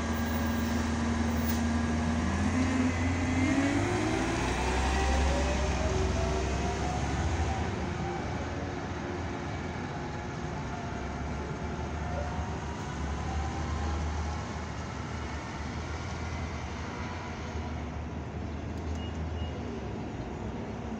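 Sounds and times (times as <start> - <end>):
bus drivetrain whine: 0.0 - 20.9
bus engine rumble: 0.0 - 20.9.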